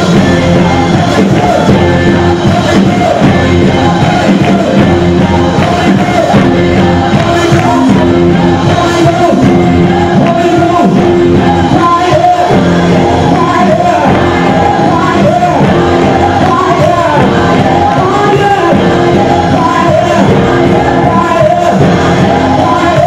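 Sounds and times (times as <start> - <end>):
live gospel band playing: 0.0 - 23.0.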